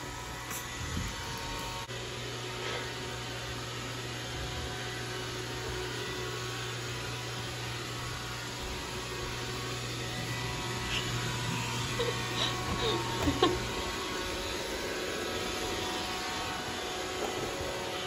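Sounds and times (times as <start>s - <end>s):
robot vacuum humming: 0.0s - 18.0s.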